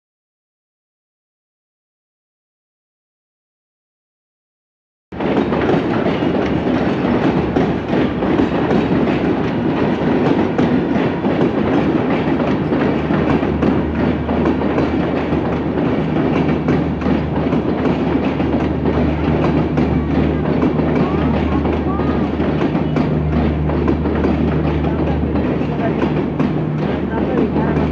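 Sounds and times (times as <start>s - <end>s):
train rumble: 5.2s - 27.9s
train wheels clattering on rails: 5.2s - 27.9s.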